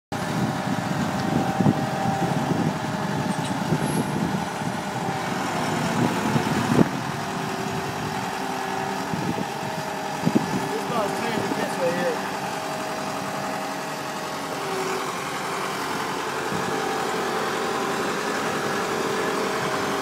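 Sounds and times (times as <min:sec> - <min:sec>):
diesel engine running: 0:00.1 - 0:20.0.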